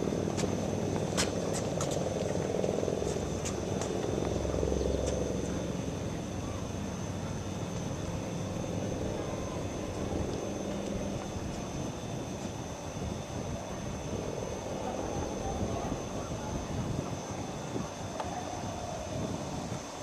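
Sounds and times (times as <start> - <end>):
distant engines rumbling: 0.0 - 20.0.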